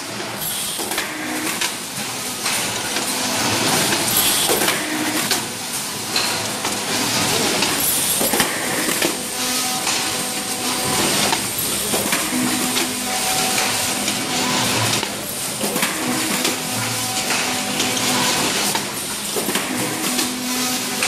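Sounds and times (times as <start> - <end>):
machine clatter: 0.2 - 21.0.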